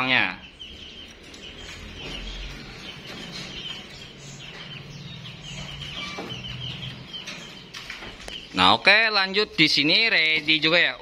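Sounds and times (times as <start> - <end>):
birds calling and chirping: 0.0 - 11.0.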